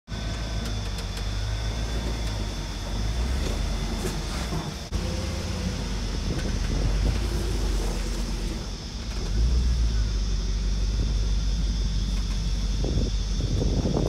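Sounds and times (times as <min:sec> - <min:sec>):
engine running at low revs: 0:00.1 - 0:14.0.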